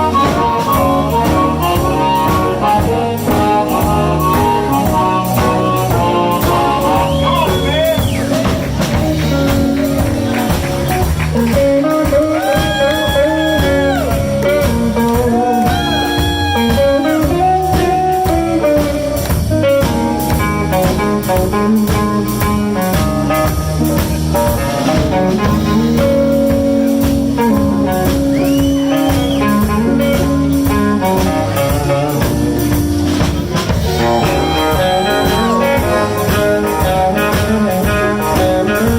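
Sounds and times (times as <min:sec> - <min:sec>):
blues band playing: 0:00.0 - 0:38.9
drum kit beat: 0:00.0 - 0:38.9
lead line with bending notes: 0:00.0 - 0:38.9.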